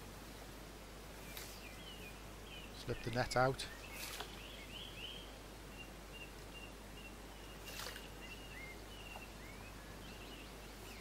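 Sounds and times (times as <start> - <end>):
small birds chirping: 1.1 - 11.0.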